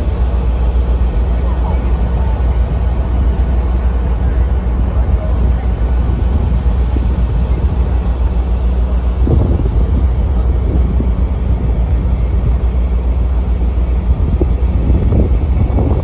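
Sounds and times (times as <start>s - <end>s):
motorboat engine droning: 0.0s - 16.0s
wind buffeting microphone: 0.0s - 16.0s.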